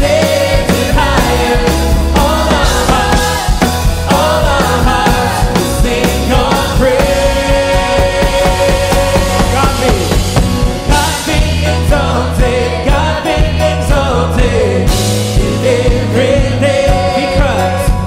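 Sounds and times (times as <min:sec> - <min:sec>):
band with bass and drums: 0:00.0 - 0:18.0
worship team singing: 0:00.0 - 0:18.0.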